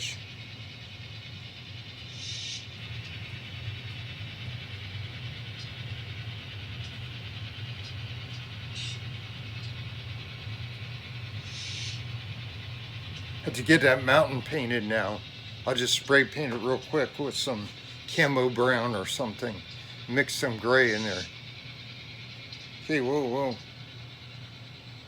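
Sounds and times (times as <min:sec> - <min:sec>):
model train humming: 0:00.0 - 0:25.0.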